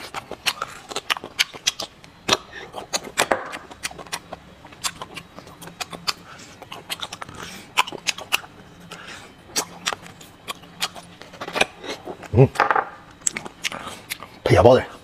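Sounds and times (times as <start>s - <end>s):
lip smacks and clicks: 0.0s - 12.4s, 13.1s - 14.3s.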